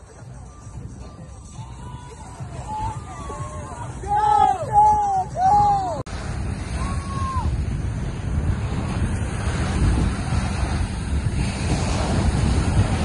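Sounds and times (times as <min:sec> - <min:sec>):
wind buffeting microphone: 0:00.0 - 0:13.0
ocean surf breaking: 0:02.1 - 0:13.0.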